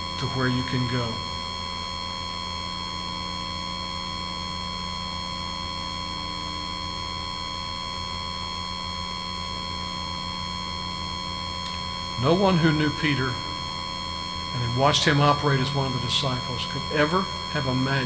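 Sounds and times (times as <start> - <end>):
electrical hum: 0.0 - 18.0
high-pitched whine: 0.0 - 18.0.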